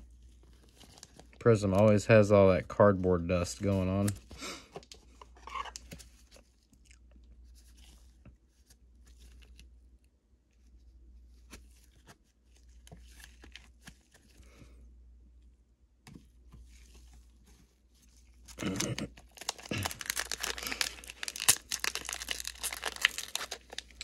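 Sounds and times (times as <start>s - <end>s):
soft plastic rustles: 0.0s - 14.9s, 16.0s - 24.0s.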